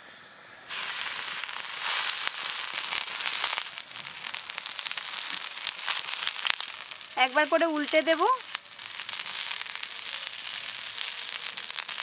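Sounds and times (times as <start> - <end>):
food sizzling in oil: 0.7 - 12.0.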